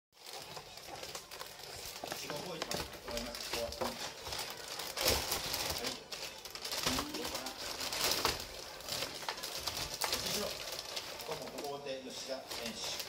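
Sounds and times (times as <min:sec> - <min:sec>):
plastic bag crinkling: 0:00.2 - 0:13.0.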